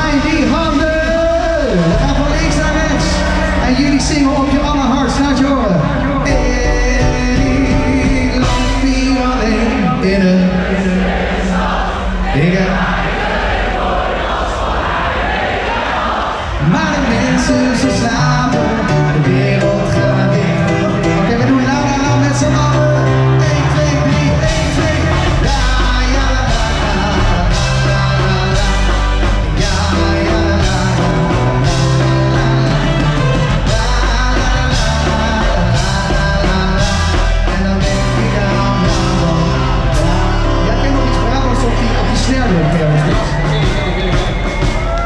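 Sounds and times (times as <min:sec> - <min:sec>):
live rock band with singer: 0:00.0 - 0:13.0, 0:16.5 - 0:45.0.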